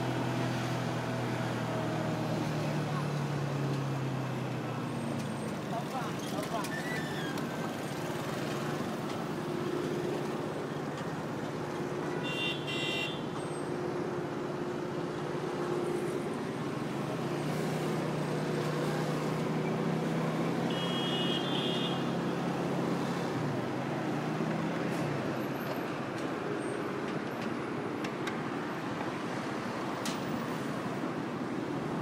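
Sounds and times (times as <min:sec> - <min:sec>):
city traffic: 0:00.0 - 0:32.0
road and wind noise: 0:00.0 - 0:32.0.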